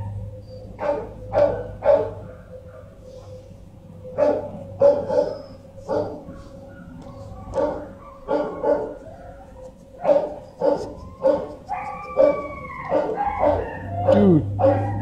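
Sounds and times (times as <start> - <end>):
dog whining: 0.0 - 15.0
dogs barking: 0.0 - 15.0.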